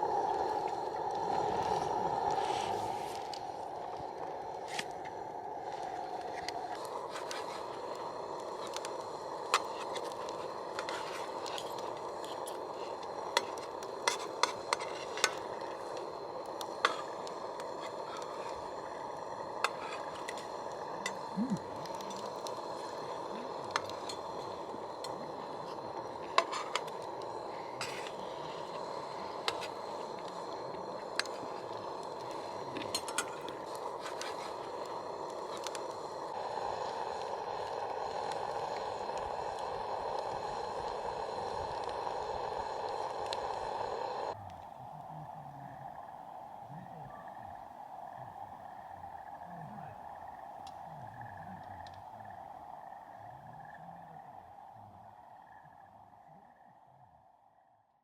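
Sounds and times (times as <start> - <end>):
food sizzling over campfire: 0.0 - 56.7.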